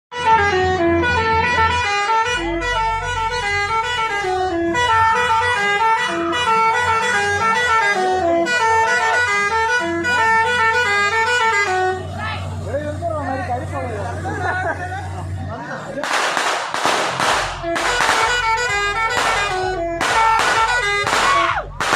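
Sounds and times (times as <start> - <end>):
musical air horn tune: 0.1 - 12.6, 16.8 - 21.9
bus engine hum: 0.1 - 21.9.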